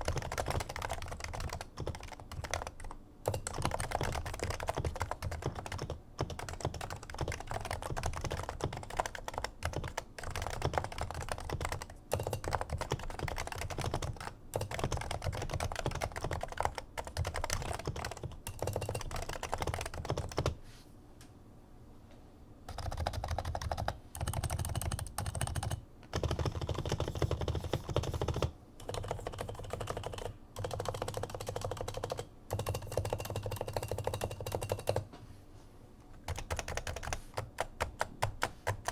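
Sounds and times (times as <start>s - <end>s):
muted keyboard typing: 0.0s - 20.6s, 22.7s - 35.1s, 36.2s - 38.9s.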